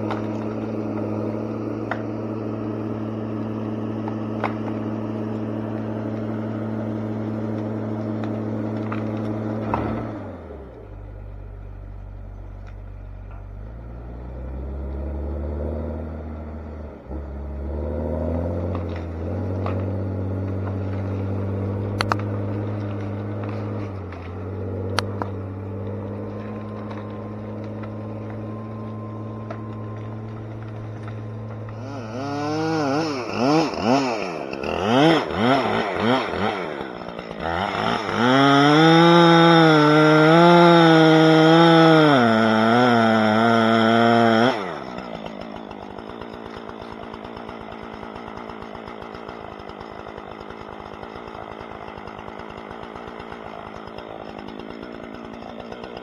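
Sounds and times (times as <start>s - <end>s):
machinery engine running: 0.0s - 56.0s.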